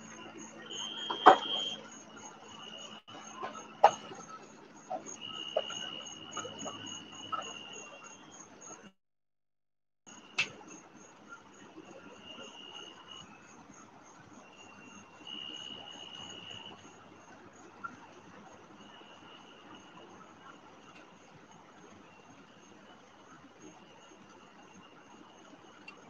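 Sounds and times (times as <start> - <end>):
lower insect trill: 0.0 - 8.9, 10.1 - 26.0
night insects chirping: 0.0 - 8.9, 10.1 - 26.0.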